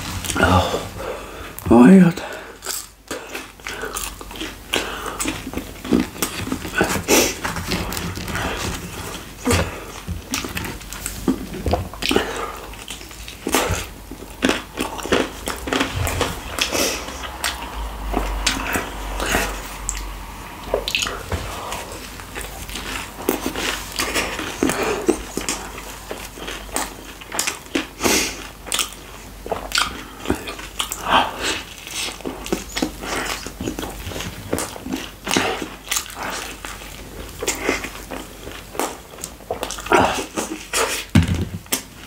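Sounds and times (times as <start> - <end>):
biting and chewing food: 2.2 - 42.0.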